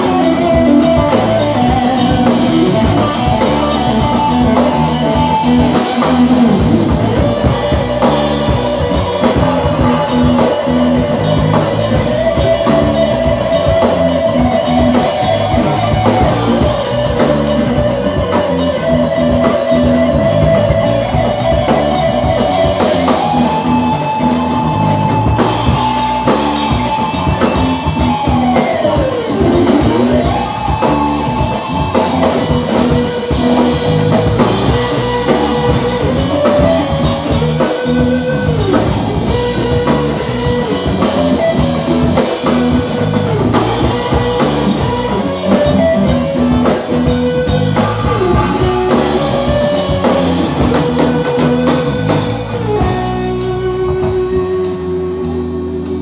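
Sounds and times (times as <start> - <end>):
drum kit beat: 0.0 - 56.0
electric guitar solo: 0.0 - 56.0.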